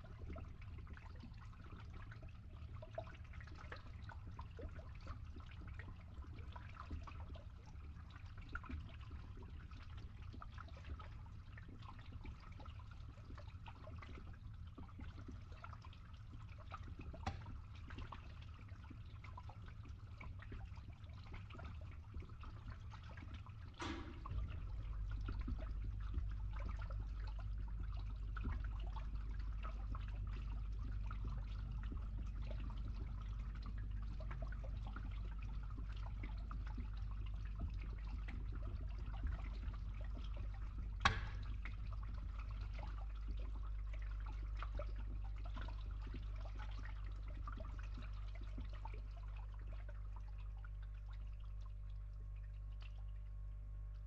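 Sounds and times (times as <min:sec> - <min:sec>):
pump humming: 0:00.0 - 0:54.0
water trickling through a pipe: 0:00.0 - 0:54.0.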